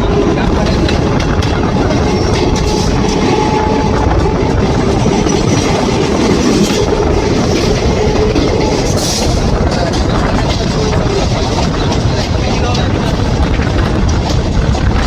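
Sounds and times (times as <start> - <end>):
electric train rumbling: 0.0 - 15.0
wheels clacking over rail joints: 0.0 - 15.0.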